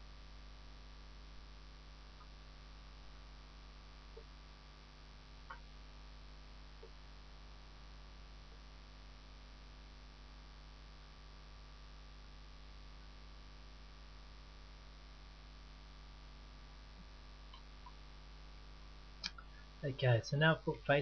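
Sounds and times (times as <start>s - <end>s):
background hiss: 0.0s - 21.0s
faint mains hum: 0.0s - 21.0s.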